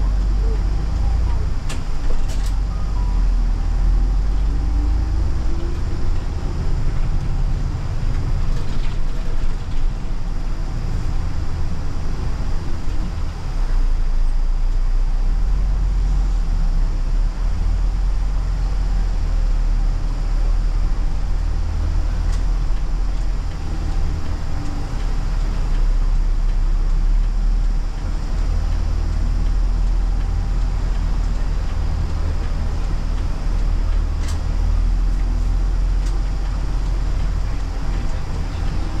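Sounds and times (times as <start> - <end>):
bus engine drone: 0.0 - 39.0
road noise: 0.0 - 39.0.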